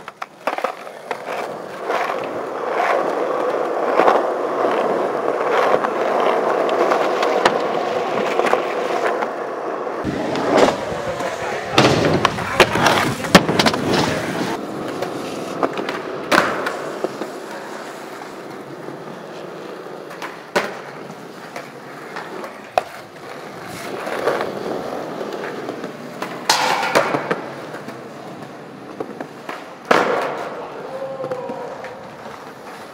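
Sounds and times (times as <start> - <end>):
skateboard clacks: 0.0 - 32.9
skateboard wheels rolling on concrete: 0.0 - 32.9.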